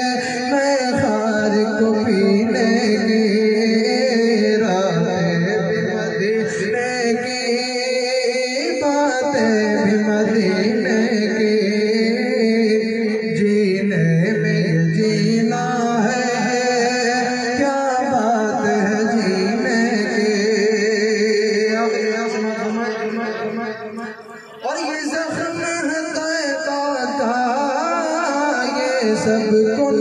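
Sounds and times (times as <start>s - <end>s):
man singing devotional song: 0.0s - 30.0s.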